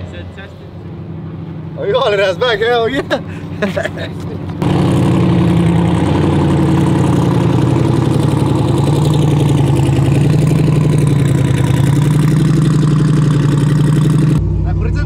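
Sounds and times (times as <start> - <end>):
truck engine idling loudly: 0.0 - 15.0.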